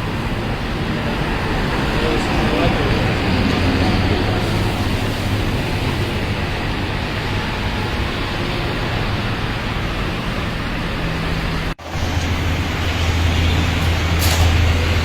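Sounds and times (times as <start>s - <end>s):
busy street traffic hum: 0.0s - 15.0s.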